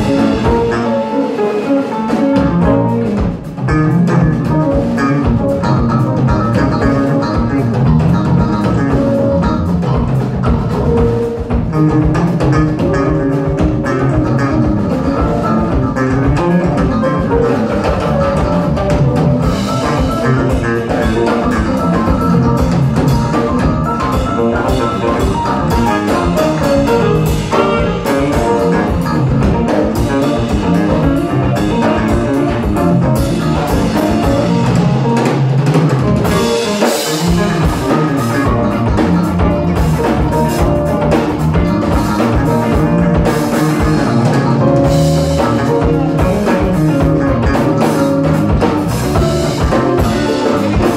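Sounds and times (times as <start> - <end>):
drum kit: 0.0 - 50.9
electric bass: 0.0 - 50.9
electric guitar: 0.0 - 50.9.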